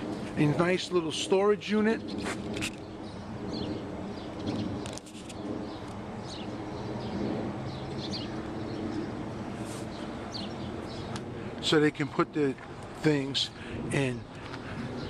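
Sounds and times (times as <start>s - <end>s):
birds chirping: 0.0s - 15.0s
distant traffic hum: 0.0s - 15.0s.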